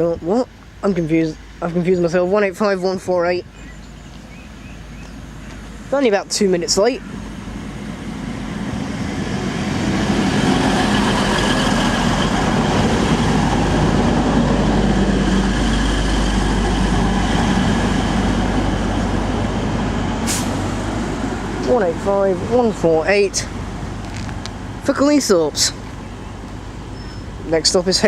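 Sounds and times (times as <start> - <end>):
train diesel engines humming: 0.6 - 28.0.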